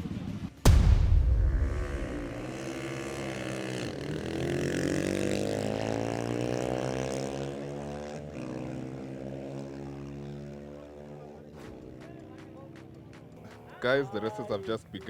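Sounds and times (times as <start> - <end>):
motorcycle engine accelerating: 0.1 - 13.3.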